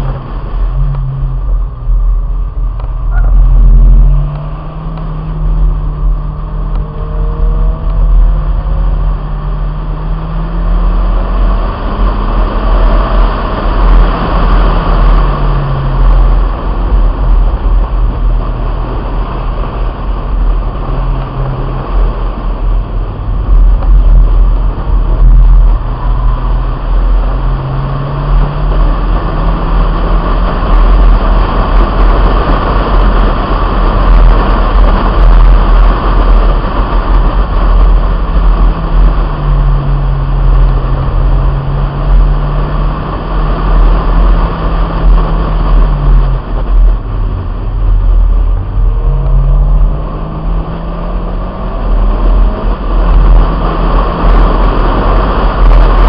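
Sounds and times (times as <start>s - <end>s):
car engine revving: 0.0s - 56.0s
wind rumble: 0.0s - 56.0s.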